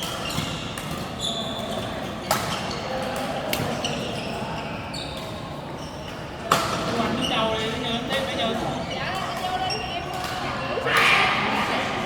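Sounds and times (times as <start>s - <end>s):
background chatter: 1.8s - 12.0s.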